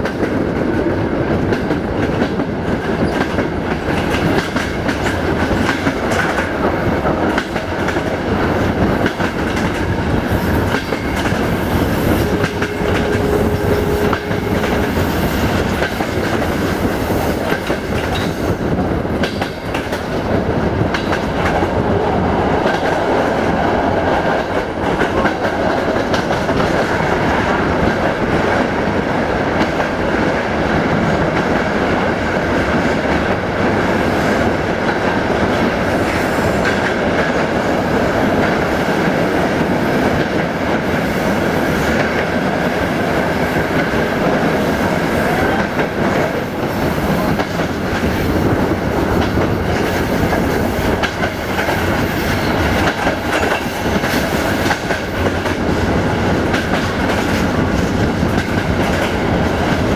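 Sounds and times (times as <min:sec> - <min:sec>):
train rumbling through tunnel: 0:00.0 - 0:59.9.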